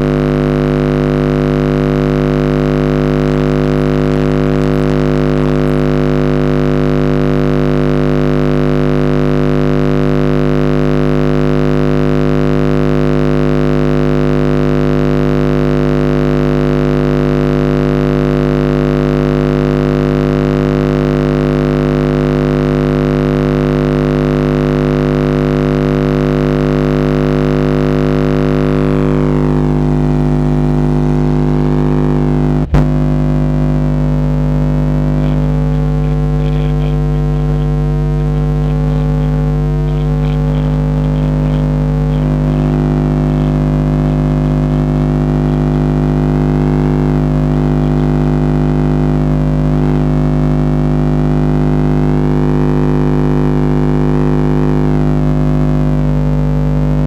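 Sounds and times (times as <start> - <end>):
subwoofer test tone drone: 0.0 - 57.0.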